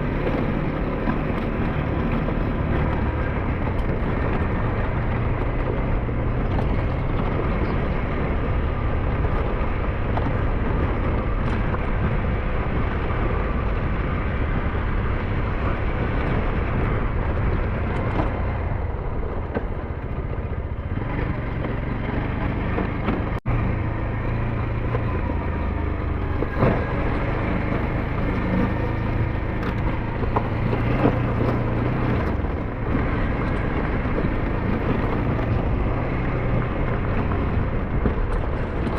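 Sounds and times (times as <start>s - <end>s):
engine running low hum: 0.0s - 38.9s
road and wind noise: 0.0s - 38.9s.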